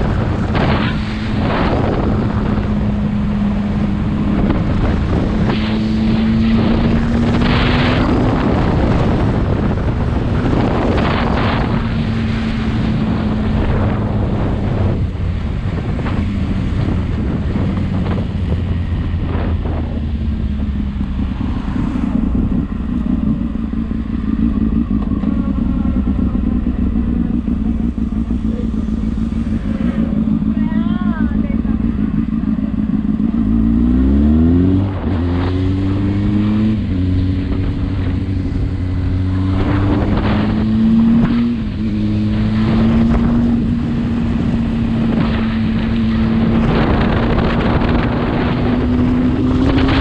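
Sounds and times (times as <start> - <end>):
wind noise on microphone: 0.0 - 25.2, 31.2 - 50.0
motorcycle engine running: 0.0 - 50.0.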